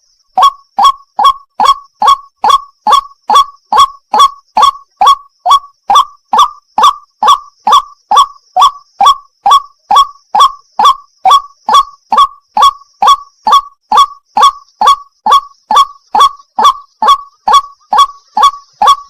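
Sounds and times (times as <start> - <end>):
bird calling short kwak notes: 0.0 - 19.0.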